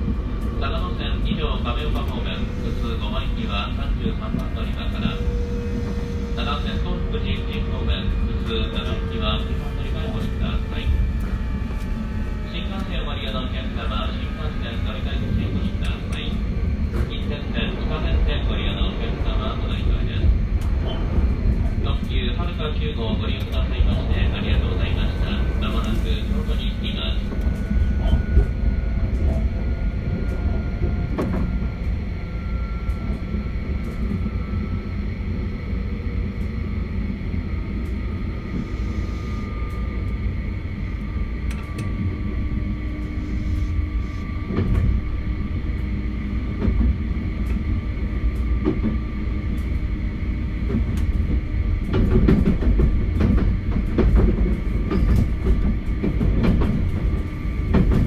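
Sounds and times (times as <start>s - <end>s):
electric train rumble: 0.0s - 58.0s.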